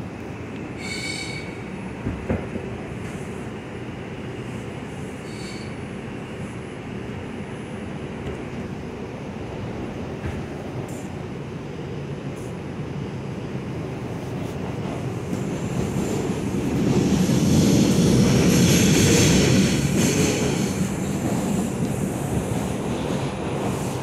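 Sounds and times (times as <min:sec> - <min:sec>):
subway car rumbling on rails: 0:00.0 - 0:24.0.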